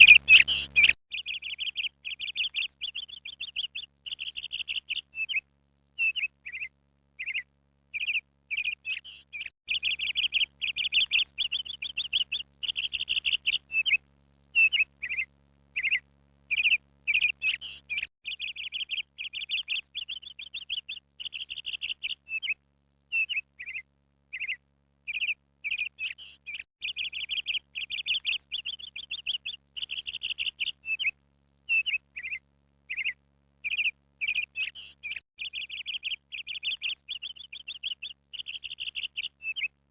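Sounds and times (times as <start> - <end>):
birds chirping: 0.0 - 5.4, 6.0 - 14.0, 14.6 - 39.7.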